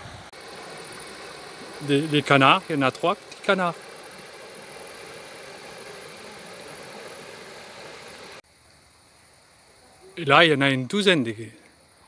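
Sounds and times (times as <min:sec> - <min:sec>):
outdoor background hiss and rumble: 0:00.0 - 0:12.0.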